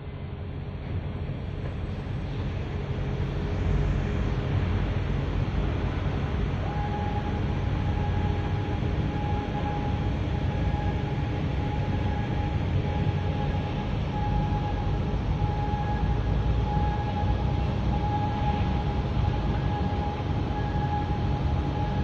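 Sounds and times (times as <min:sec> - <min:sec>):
ship machinery low rumble: 0:00.0 - 0:22.0
steady high whine: 0:00.0 - 0:22.0.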